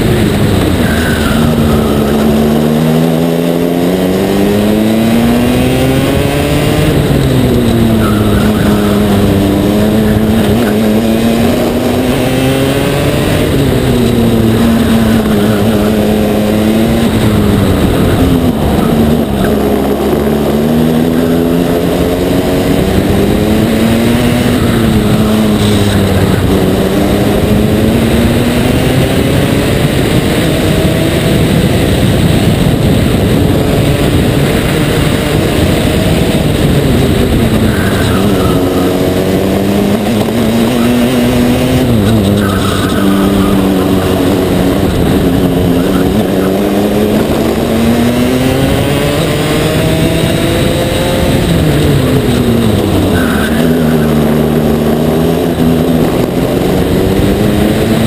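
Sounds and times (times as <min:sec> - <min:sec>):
racing kart engine accelerating: 0:00.0 - 0:58.0.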